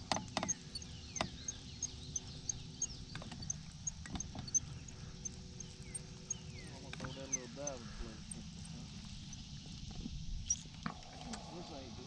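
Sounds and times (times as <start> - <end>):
gear clicks and knocks: 0.0 - 11.0
faint steady hum: 0.0 - 12.0.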